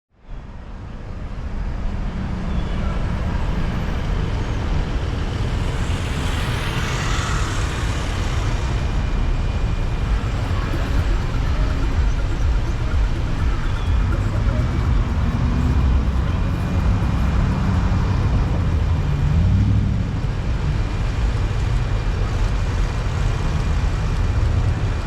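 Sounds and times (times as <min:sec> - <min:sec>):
road traffic rumble: 0:00.3 - 0:25.0
vehicle passing close: 0:02.1 - 0:25.0.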